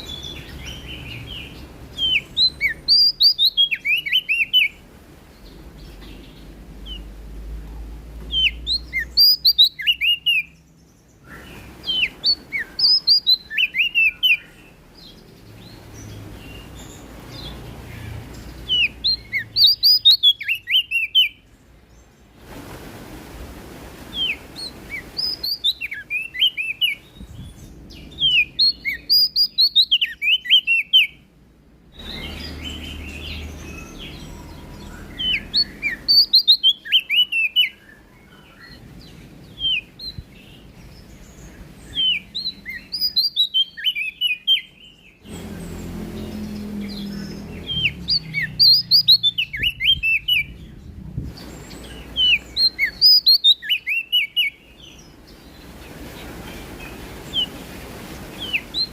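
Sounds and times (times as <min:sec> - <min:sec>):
warbler chirping song: 0:00.0 - 0:22.4, 0:24.1 - 0:58.9
background hiss: 0:00.0 - 0:58.9.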